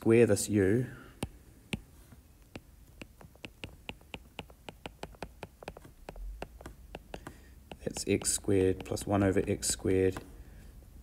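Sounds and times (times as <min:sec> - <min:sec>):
stylus tapping on tablet: 0:01.2 - 0:10.3.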